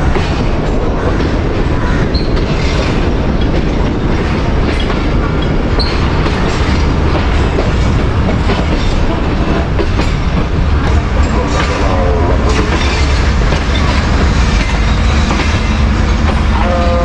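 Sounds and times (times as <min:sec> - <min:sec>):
train coach rumbling: 0:00.0 - 0:17.0
wheel clatter over rail joints: 0:00.0 - 0:17.0.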